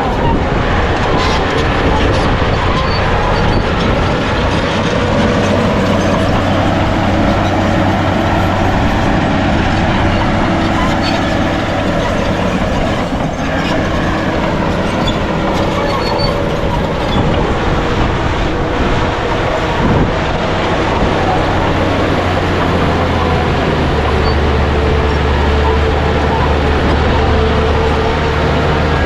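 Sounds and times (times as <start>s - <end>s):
bulldozer diesel engine under load: 0.0s - 29.0s
crawler tracks clattering and squealing: 0.0s - 29.0s.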